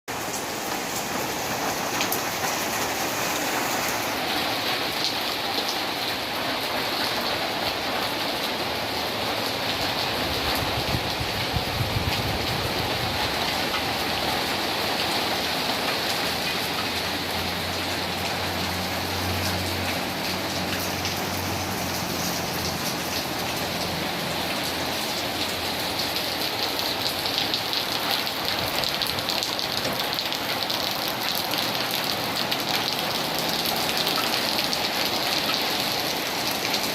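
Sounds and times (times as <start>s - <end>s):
rain spattering on surfaces: 0.1s - 36.9s.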